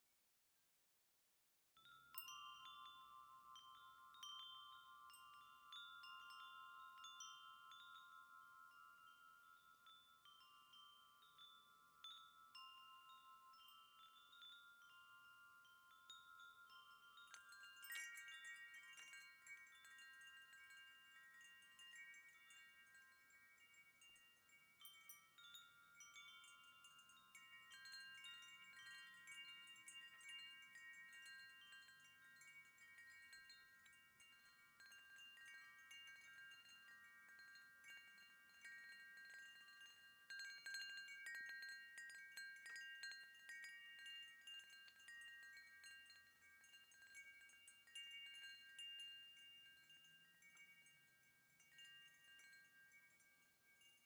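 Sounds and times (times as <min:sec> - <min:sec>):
wind chimes ringing: 0:01.8 - 0:54.0.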